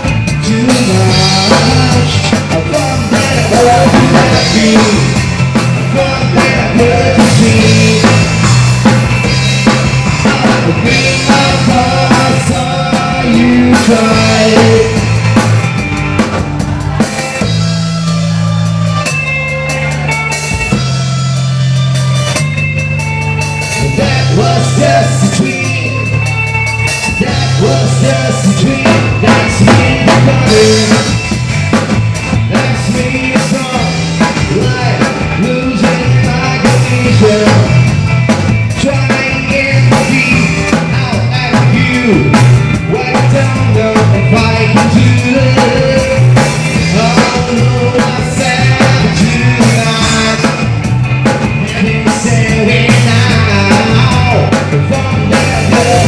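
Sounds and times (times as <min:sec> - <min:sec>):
person singing: 0:00.0 - 0:09.0, 0:09.6 - 0:15.6, 0:23.6 - 0:31.4, 0:32.2 - 0:56.0
rock band playing: 0:00.0 - 0:56.0.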